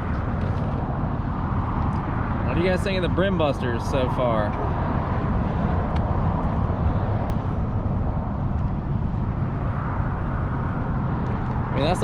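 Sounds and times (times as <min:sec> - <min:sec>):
highway traffic rumble: 0:00.0 - 0:12.0.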